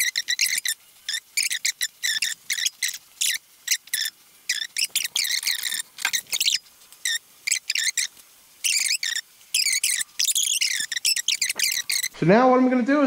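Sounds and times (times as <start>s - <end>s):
silicone tube squeaking: 0.0s - 12.2s.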